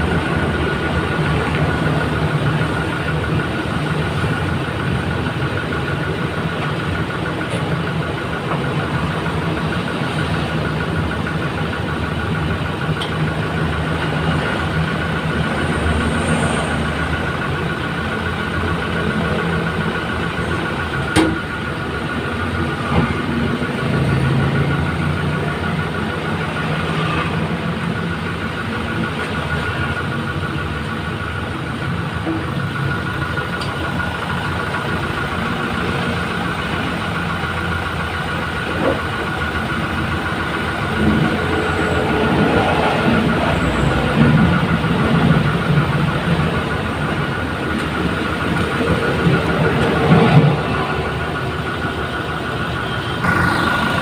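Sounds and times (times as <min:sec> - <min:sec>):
car engine idling: 0:00.0 - 0:54.0
high whine: 0:00.0 - 0:54.0.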